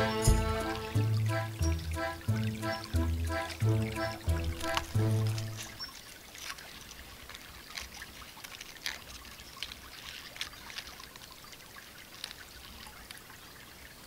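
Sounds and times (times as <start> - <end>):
small stream trickling: 0.0 - 14.0.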